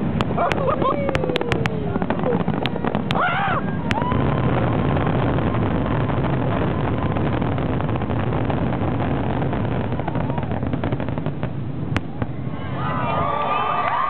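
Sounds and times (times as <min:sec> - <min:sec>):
fireworks booming and crackling: 0:00.0 - 0:14.0.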